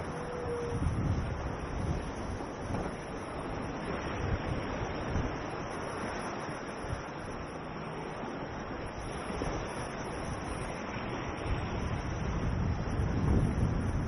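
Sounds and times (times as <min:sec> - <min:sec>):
wind buffeting microphone: 0:00.0 - 0:07.6, 0:08.2 - 0:14.0.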